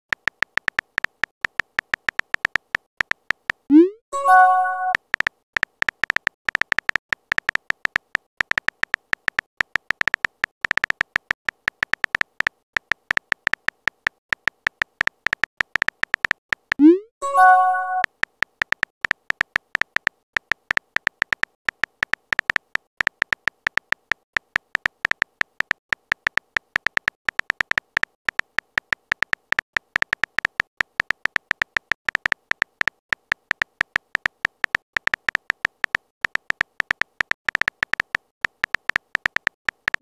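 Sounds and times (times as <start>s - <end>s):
keyboard tap clicks: 0.1s - 3.6s, 4.4s - 16.9s, 17.5s - 40.0s.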